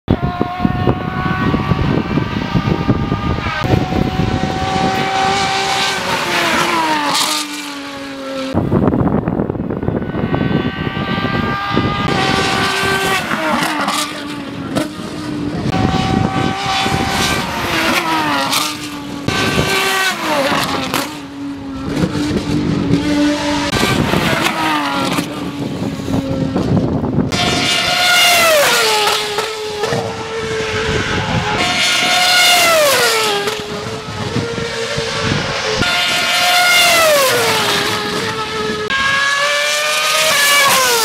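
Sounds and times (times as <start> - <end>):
distant race car engine: 0.1 - 41.0
high-pitched race car engine: 0.1 - 41.0.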